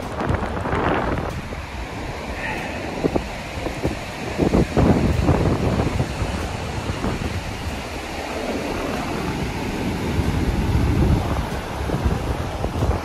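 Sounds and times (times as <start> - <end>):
ocean surf washing in: 0.0 - 13.0
wind gusting against microphone: 0.0 - 13.0.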